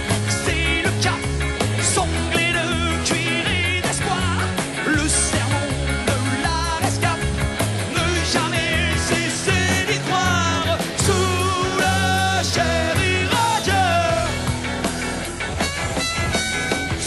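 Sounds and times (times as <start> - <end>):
rock band music: 0.0 - 17.0.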